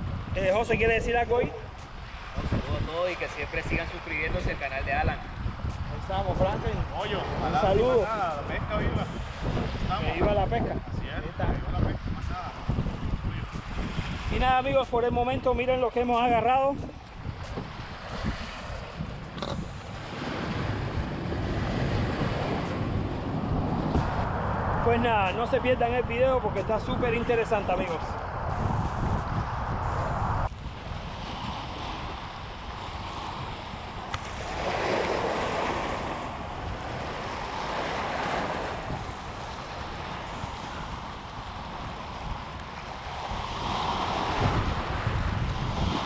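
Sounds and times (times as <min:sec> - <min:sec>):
surf washing against rocks: 0:00.0 - 0:10.6, 0:11.3 - 0:46.0
wind buffeting microphone: 0:00.0 - 0:46.0.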